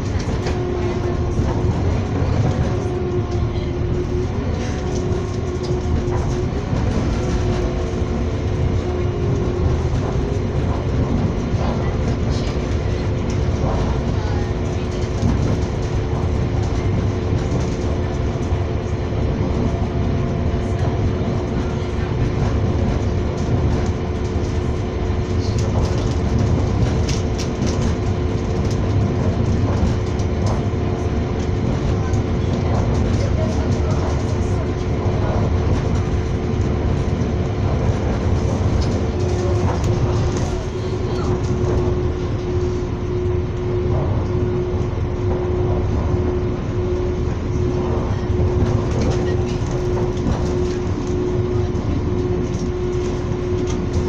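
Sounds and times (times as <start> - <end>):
wheels clicking on rails: 0.0 - 43.0, 43.6 - 54.0
steady hum: 0.0 - 54.0
train rumble: 0.0 - 54.0.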